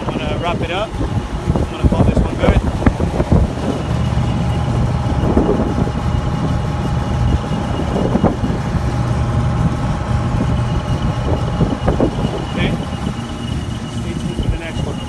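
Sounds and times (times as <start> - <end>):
steady machine drone: 0.0 - 15.0.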